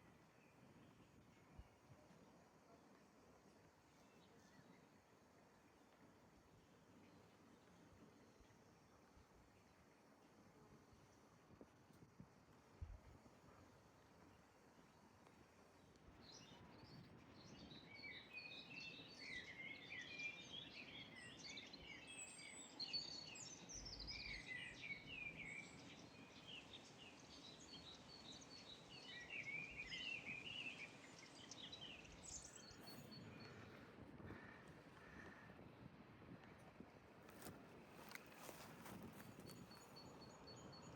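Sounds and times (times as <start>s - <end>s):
faint songbird singing: 0.0s - 11.4s, 13.4s - 40.9s.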